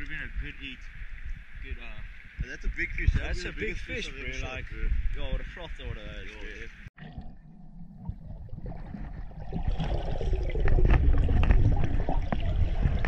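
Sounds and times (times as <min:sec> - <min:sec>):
underwater sloshing and gurgling: 0:00.0 - 0:13.0.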